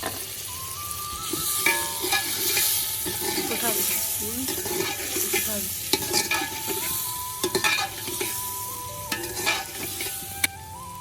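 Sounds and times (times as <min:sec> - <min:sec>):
food sizzling in a frying pan: 0:00.0 - 0:11.0
spoon scraping and knocking pan: 0:01.2 - 0:10.6.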